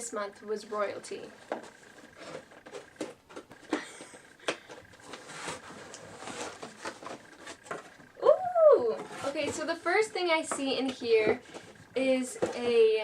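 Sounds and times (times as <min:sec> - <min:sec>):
cardboard packaging rustling: 0:01.4 - 0:08.2, 0:08.8 - 0:13.0.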